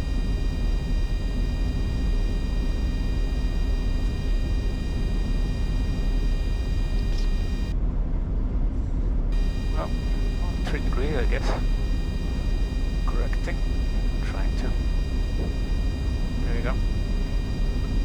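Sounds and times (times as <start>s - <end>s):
high-pitched whining tones: 0.0s - 7.7s, 9.4s - 18.0s
airflow and engine rumble: 0.0s - 18.0s.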